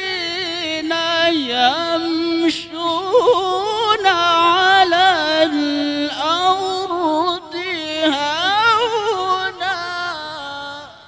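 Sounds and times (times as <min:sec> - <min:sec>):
man chanting through microphone: 0:00.0 - 0:11.0.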